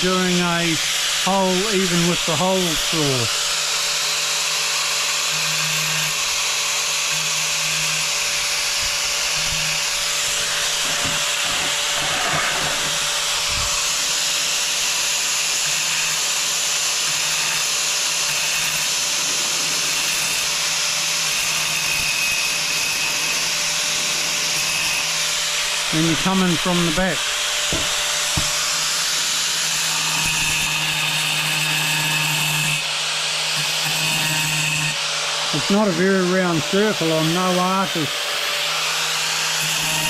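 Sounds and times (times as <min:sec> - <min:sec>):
angle grinder grinding tile: 0:00.0 - 0:40.0.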